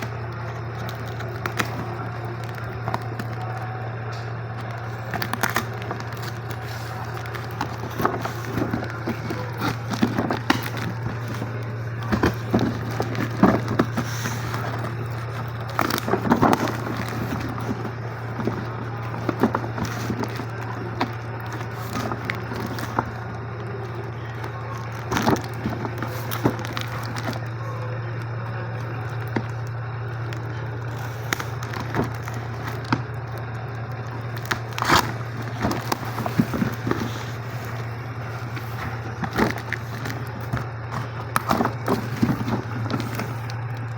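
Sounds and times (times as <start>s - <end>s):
plastic parts clicking and tapping: 0.0s - 43.9s
steady low hum: 0.0s - 43.9s.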